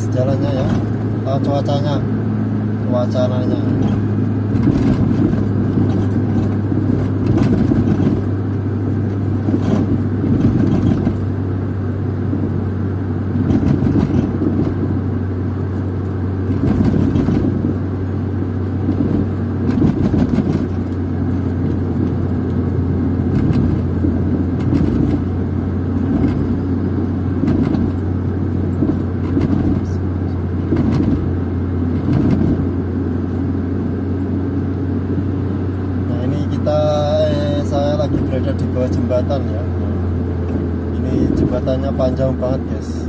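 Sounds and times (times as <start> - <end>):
car engine hum: 0.0 - 43.0
road noise: 0.0 - 43.0.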